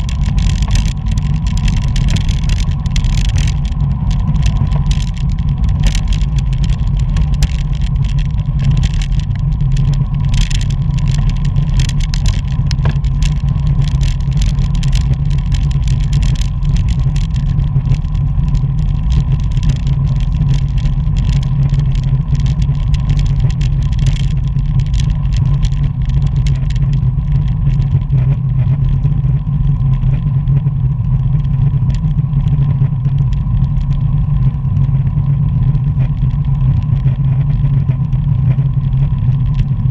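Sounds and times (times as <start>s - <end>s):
bicycle clicks and rattles: 0.0s - 39.9s
wind buffeting microphone: 0.0s - 39.9s.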